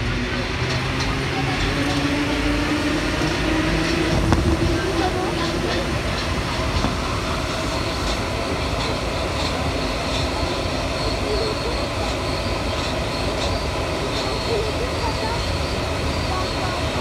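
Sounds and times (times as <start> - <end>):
metro train rumble and hiss: 0.0 - 17.0.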